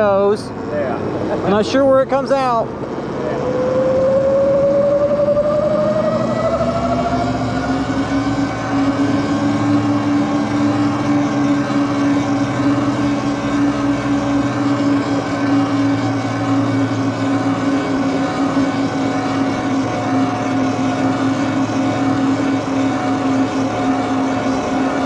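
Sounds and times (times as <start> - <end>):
electric bike motor whining: 0.0 - 25.0
steady rush of noise: 0.0 - 25.0.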